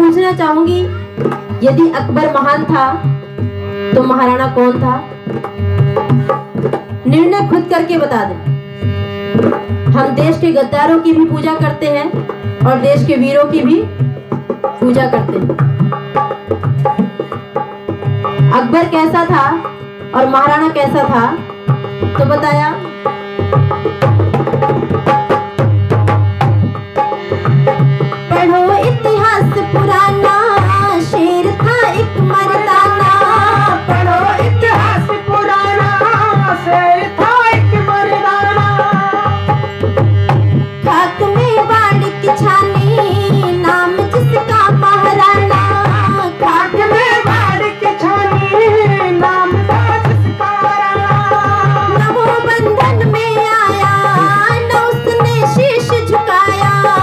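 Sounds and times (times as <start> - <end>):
ornamented melody line: 0.0 - 57.0
tabla rhythm: 0.0 - 57.0.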